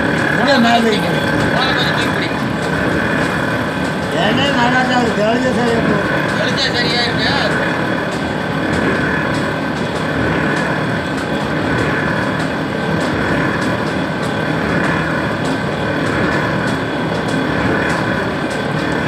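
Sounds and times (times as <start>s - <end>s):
mill machinery humming: 0.0s - 19.0s.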